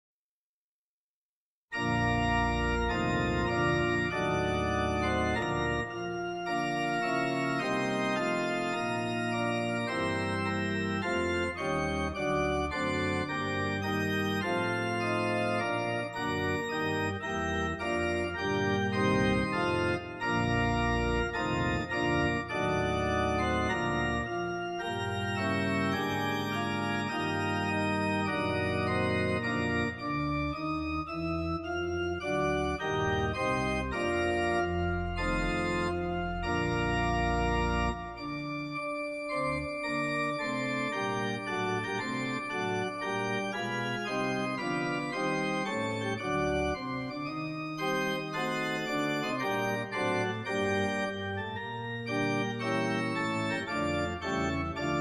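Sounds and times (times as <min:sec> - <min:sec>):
organ playing chords: 0:01.7 - 0:55.0.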